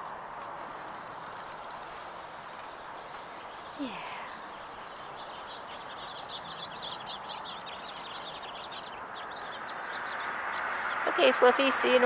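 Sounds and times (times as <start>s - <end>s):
small bird chirping rapidly: 0.0s - 12.0s
steady background noise: 0.0s - 12.0s.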